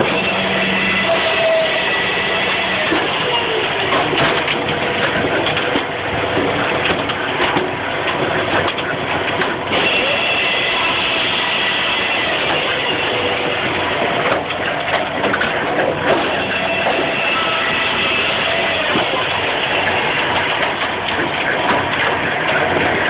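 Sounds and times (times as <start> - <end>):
saw-splitter mechanical noise: 0.0 - 23.0.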